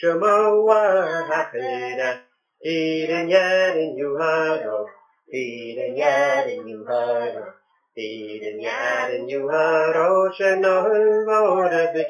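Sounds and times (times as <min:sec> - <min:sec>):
man and boys singing unaccompanied: 0:00.0 - 0:12.0.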